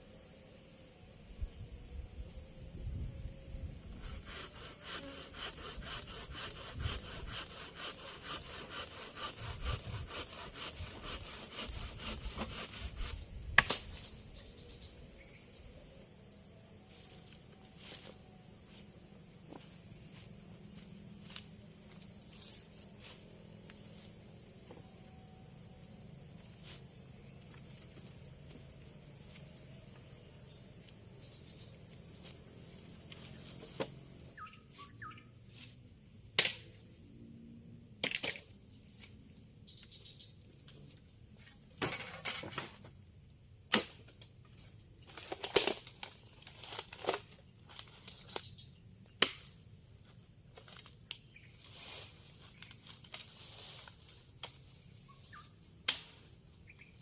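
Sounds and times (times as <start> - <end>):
forest insect chorus: 0.0 - 57.0.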